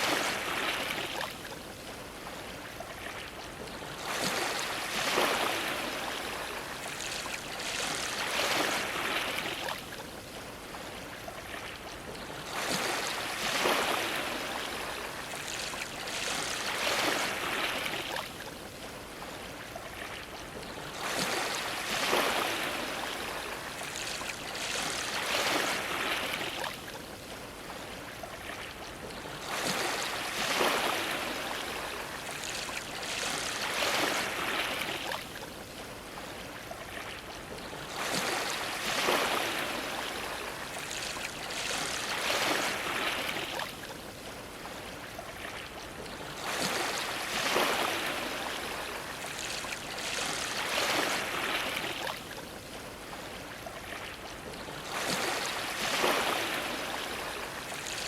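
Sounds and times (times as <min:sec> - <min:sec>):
ocean waves splashing against dock: 0:00.0 - 0:58.0.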